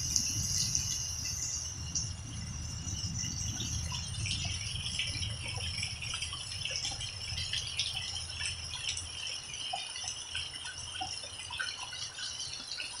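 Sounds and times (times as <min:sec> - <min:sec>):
heavy rain falling: 0:00.0 - 0:11.4
water streaming off roof: 0:00.0 - 0:13.0.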